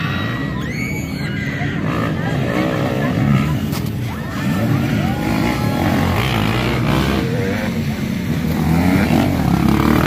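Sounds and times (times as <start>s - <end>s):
dirt bike engine revving: 1.8s - 10.0s.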